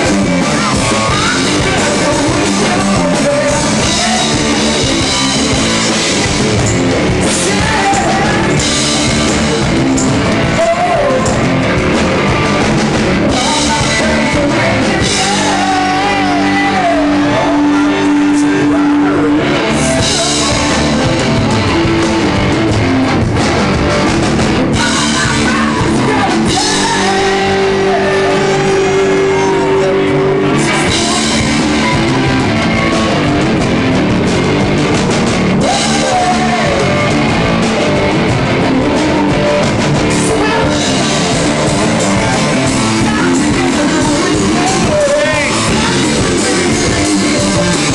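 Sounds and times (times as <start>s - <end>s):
loud rock music with singing: 0.0s - 47.9s.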